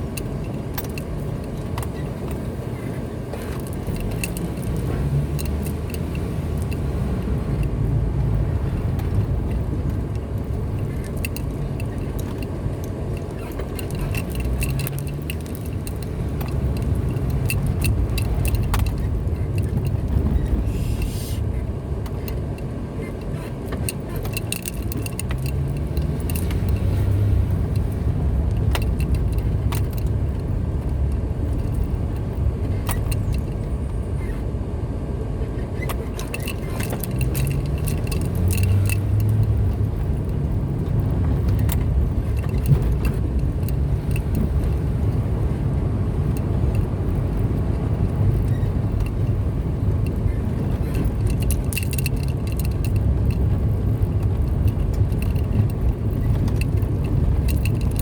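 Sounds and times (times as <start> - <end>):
small clicks and rattles: 0.0 - 20.7, 22.0 - 34.4, 35.8 - 58.0
car engine and road noise: 0.0 - 58.0.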